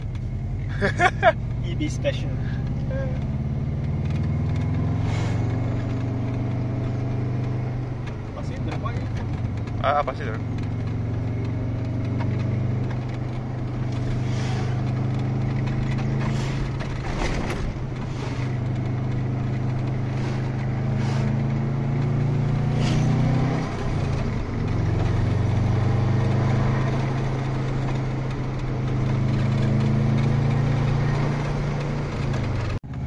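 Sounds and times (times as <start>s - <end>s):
car engine drone from cabin: 0.0s - 33.0s.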